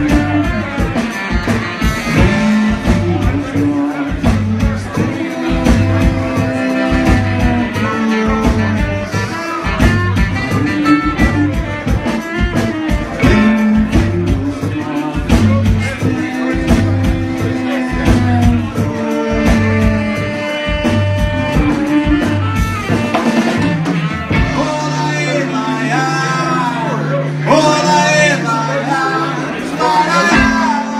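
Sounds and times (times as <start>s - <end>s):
bass: 0.0s - 30.9s
drum kit beat: 0.0s - 30.9s
electric guitar: 0.0s - 30.9s
saxophones: 0.0s - 30.9s.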